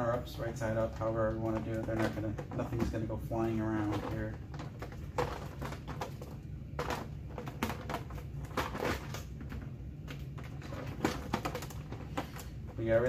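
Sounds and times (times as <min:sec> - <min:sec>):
cardboard boxes clicking on plastic: 0:00.0 - 0:13.0.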